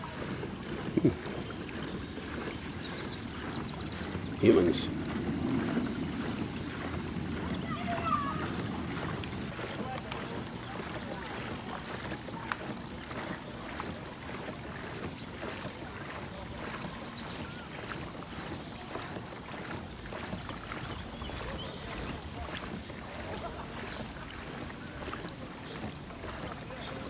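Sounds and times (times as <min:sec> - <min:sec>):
boat motor hum: 0:00.0 - 0:27.0
water splashing against hull: 0:00.0 - 0:27.0
wind on microphone: 0:00.0 - 0:27.0.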